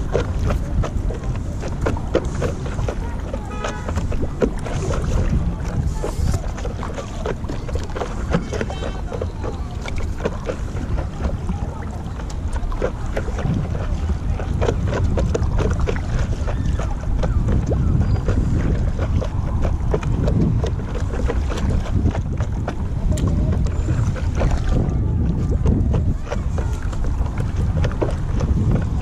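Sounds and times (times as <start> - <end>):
paddle splashing water: 0.0 - 29.0
wind buffeting microphone: 0.0 - 29.0.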